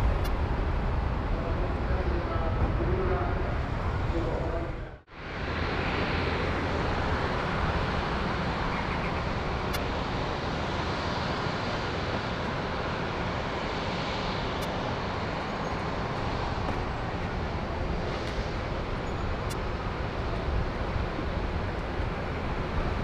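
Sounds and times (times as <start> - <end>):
aircraft engines running: 0.0 - 23.0.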